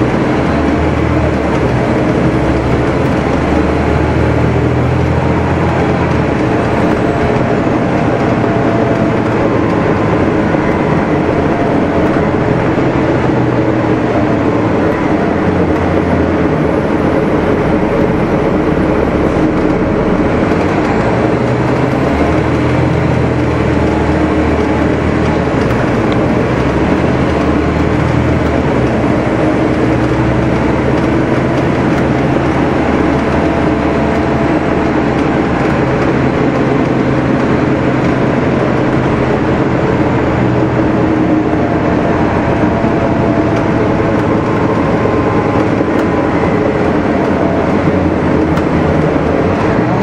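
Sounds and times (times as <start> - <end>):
bus diesel engine humming: 0.0 - 50.0.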